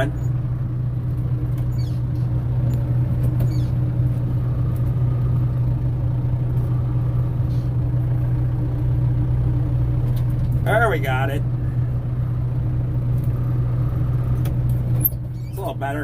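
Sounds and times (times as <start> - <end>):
vehicle engine and road hum: 0.0 - 16.0.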